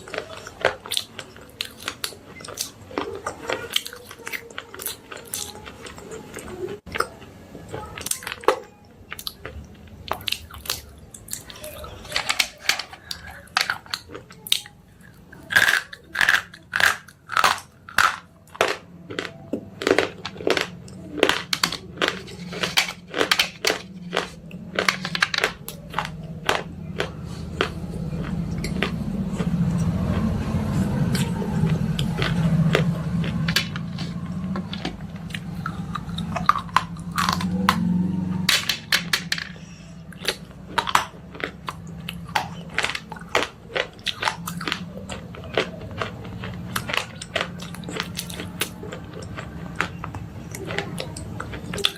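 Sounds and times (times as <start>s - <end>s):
brittle crunches of chewing: 0.0s - 38.2s, 39.6s - 51.9s
low grinding chew: 0.0s - 51.9s.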